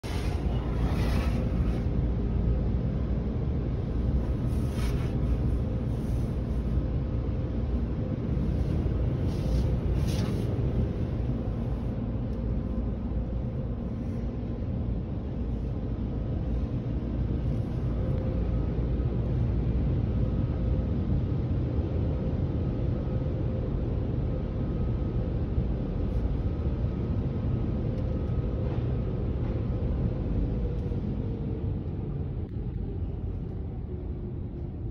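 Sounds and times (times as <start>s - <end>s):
car wash machinery rumble: 0.0s - 34.9s.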